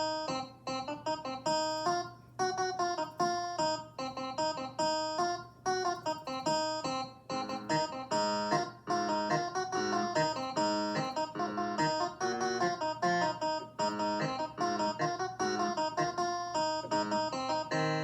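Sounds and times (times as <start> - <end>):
digital piano plucked notes: 0.0 - 18.0.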